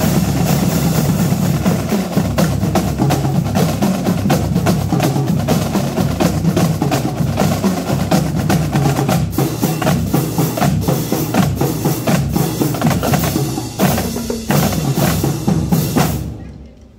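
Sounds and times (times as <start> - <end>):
marching drum line: 0.0 - 16.5.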